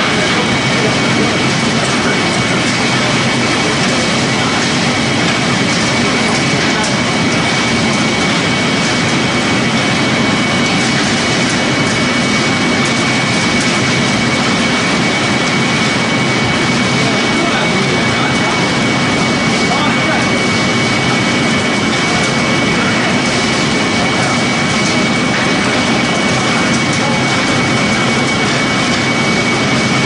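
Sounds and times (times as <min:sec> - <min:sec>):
machinery running with high whine: 0:00.0 - 0:30.0.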